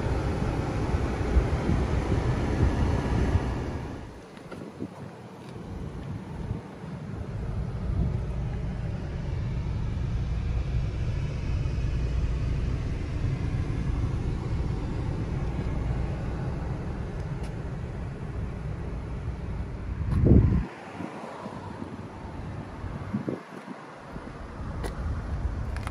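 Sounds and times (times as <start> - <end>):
low rumbling background noise: 0.0 - 25.9.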